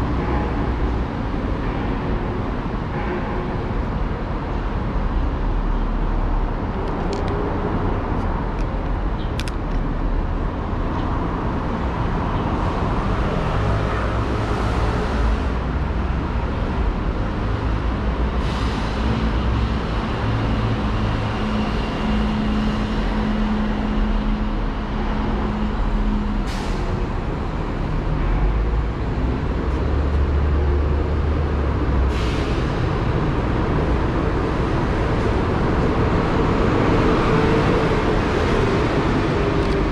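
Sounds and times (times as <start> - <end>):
traffic engine rumble: 0.0 - 39.9.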